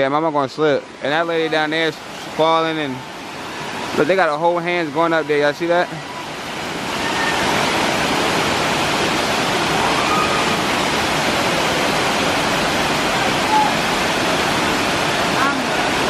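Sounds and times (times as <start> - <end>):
waterfall rushing over rock: 0.0 - 16.0.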